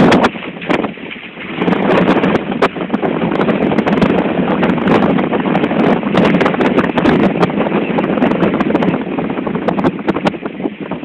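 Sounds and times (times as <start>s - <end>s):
heavy seas breaking on hull: 0.0s - 11.0s
strong wind on microphone: 0.0s - 11.0s.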